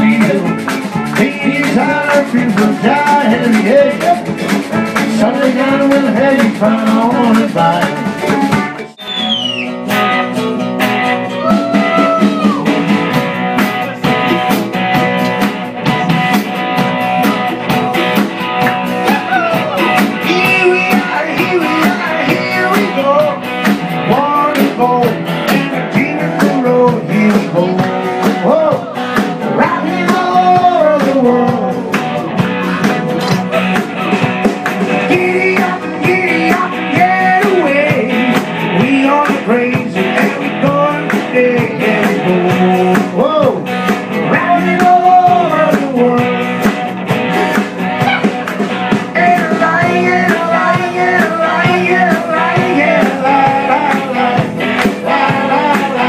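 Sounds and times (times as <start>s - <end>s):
person singing: 0.0s - 10.4s, 11.0s - 16.4s, 18.9s - 48.4s, 49.0s - 56.0s
blues-rock band playing: 0.0s - 56.0s.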